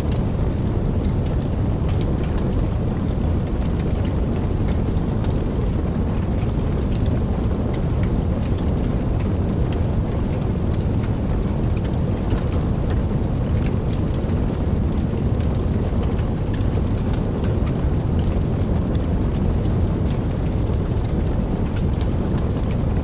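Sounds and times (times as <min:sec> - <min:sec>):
campfire flames rushing: 0:00.0 - 0:23.0
fire crackles and pops: 0:00.0 - 0:23.0.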